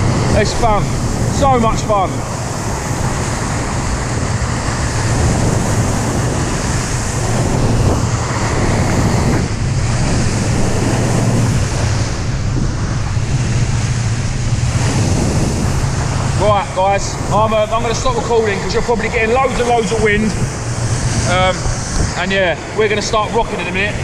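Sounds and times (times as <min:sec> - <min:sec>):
low engine drone: 0:00.0 - 0:24.0
water rushing past boat hull: 0:00.0 - 0:24.0
wind buffeting microphone: 0:00.0 - 0:24.0.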